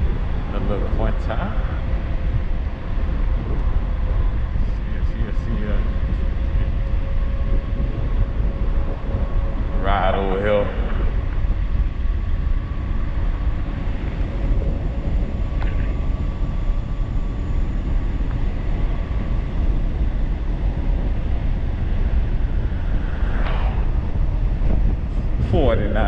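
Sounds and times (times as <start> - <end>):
faint steady whine: 0.0 - 26.0
wind buffeting microphone: 0.0 - 26.0.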